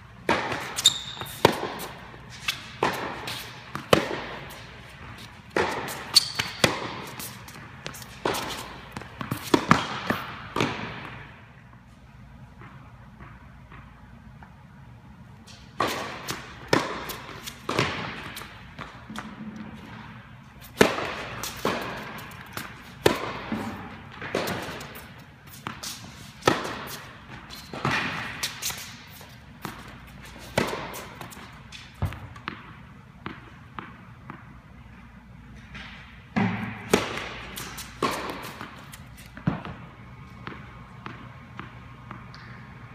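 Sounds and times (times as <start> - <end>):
tennis balls struck by rackets: 0.1 - 11.7, 15.4 - 34.8, 35.6 - 42.8.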